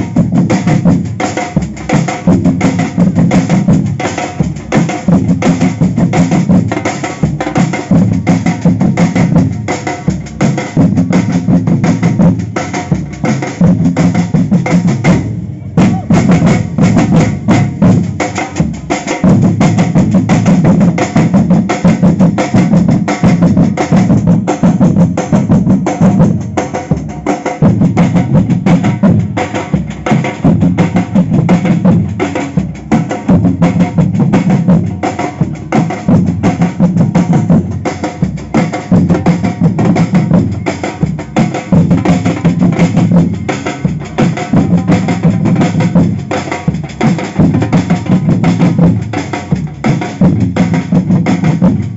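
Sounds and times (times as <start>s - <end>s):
samba percussion group playing: 0.0s - 51.9s.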